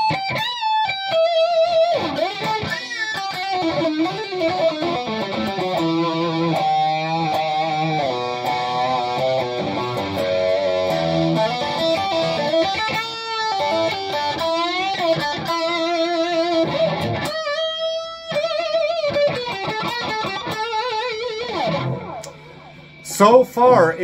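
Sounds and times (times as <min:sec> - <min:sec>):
electric guitar lead with string bends: 0:00.0 - 0:24.0.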